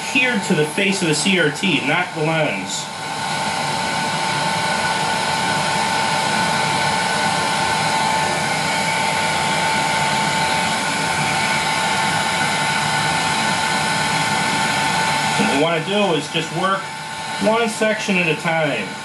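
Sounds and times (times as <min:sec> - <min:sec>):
heat gun blowing with whine: 0:00.0 - 0:19.0.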